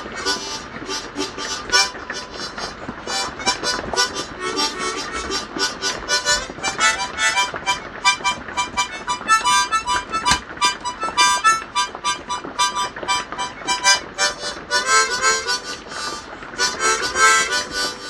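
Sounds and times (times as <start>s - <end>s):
harmonica melody: 0.0s - 18.0s.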